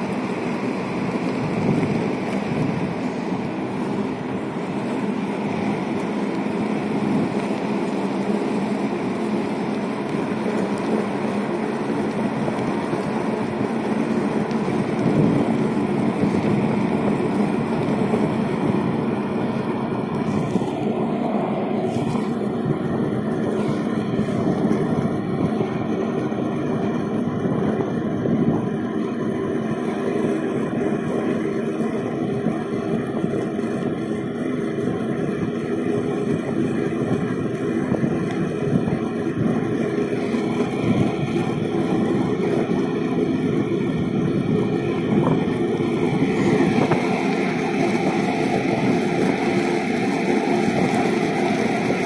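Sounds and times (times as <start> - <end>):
wind on microphone: 0.0 - 7.9, 9.6 - 52.0
wheels rolling over asphalt: 0.0 - 52.0.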